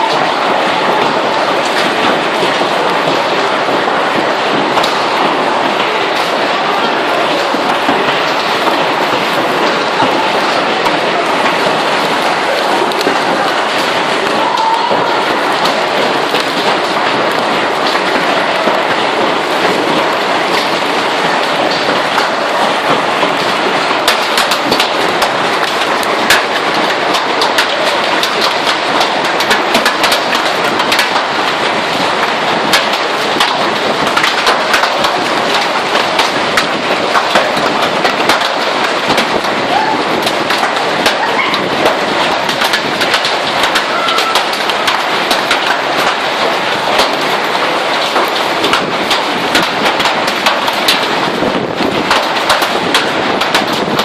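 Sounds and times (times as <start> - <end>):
hailstones striking hard surfaces: 0.0 - 54.0
heavy rain: 0.0 - 54.0.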